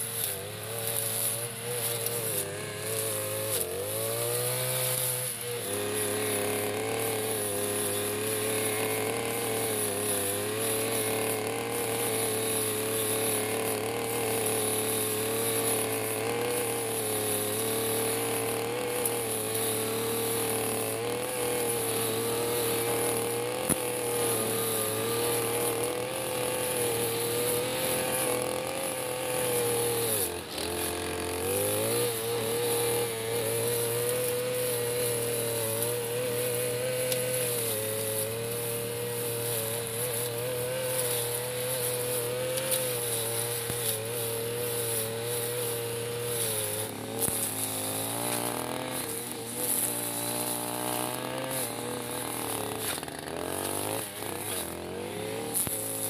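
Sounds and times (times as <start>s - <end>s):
brush cutter cutting grass: 0.0s - 56.0s.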